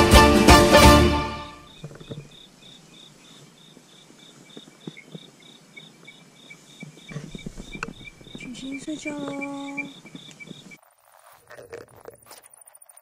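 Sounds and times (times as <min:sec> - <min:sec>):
insects chirping: 0:01.3 - 0:13.0
faint ticks and rustles: 0:01.7 - 0:13.0.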